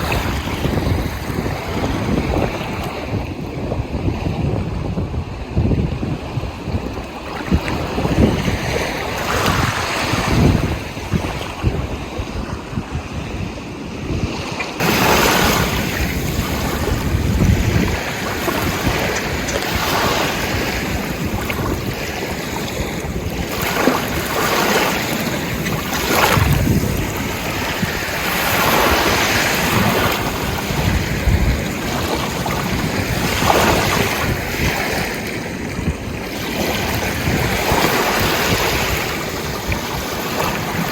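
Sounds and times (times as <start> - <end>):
ocean waves washing in: 0.0 - 40.9
wind rumbling on microphone: 0.0 - 40.9.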